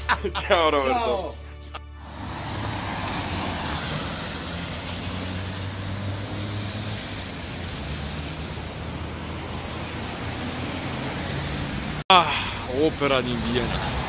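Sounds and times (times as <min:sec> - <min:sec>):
cars passing on wet road: 0:01.9 - 0:14.0.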